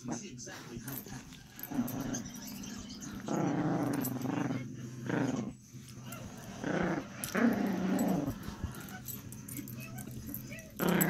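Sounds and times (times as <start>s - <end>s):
puppy growling: 0.0s - 11.0s.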